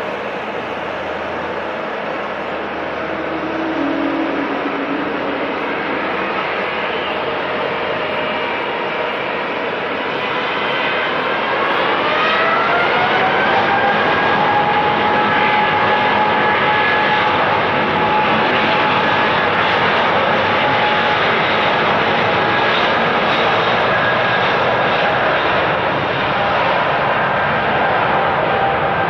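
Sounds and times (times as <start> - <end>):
jet engines spooling up: 0.0 - 29.0.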